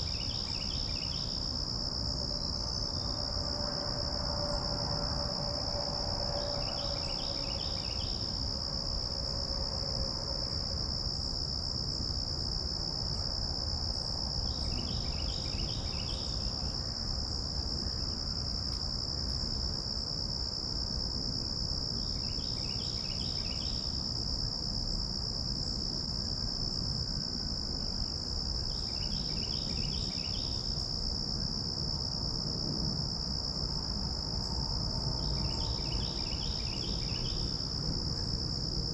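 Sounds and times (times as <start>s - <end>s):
insect chorus buzzing: 0.0s - 38.9s.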